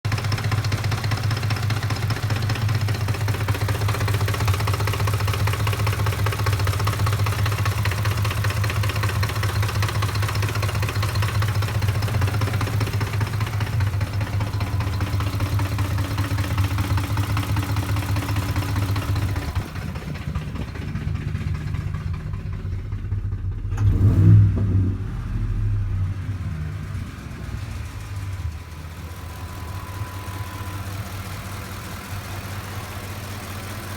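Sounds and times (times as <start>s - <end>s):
engine idling roughly: 0.0s - 33.9s.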